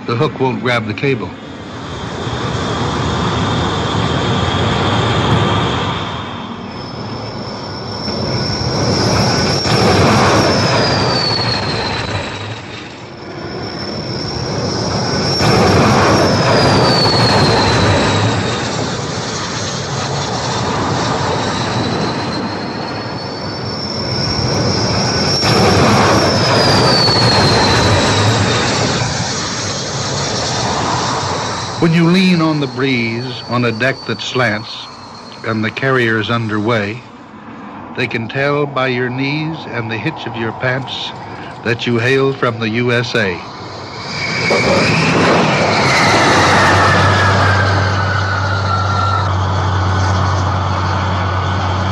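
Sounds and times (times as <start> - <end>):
jet landing with falling whine: 0.0 - 51.9.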